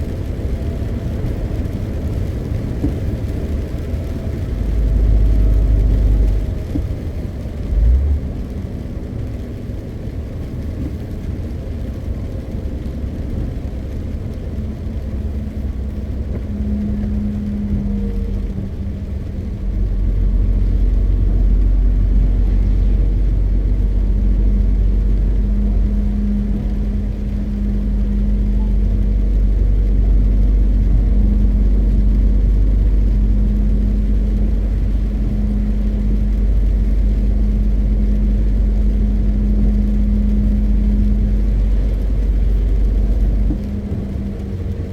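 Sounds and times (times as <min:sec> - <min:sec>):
deep rumble: 0:00.0 - 0:44.9
diesel truck engine droning: 0:00.0 - 0:44.9
road noise: 0:00.0 - 0:44.9.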